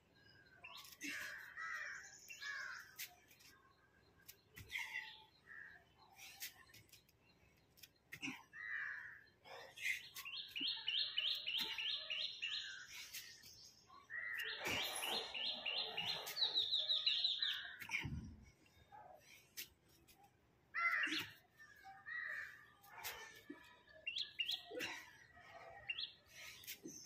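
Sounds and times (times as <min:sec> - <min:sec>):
scattered bird calls: 0:00.2 - 0:18.3, 0:20.8 - 0:27.0.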